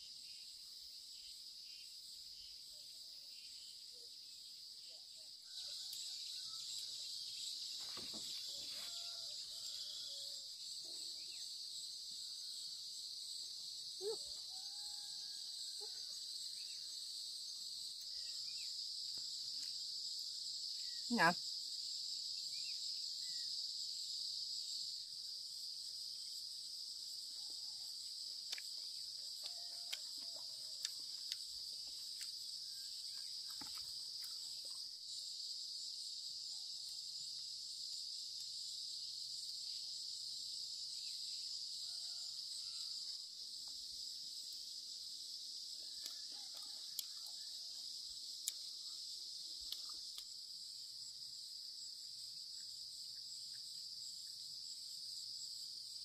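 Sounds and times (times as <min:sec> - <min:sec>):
insects chorus droning: 0:00.0 - 0:56.0.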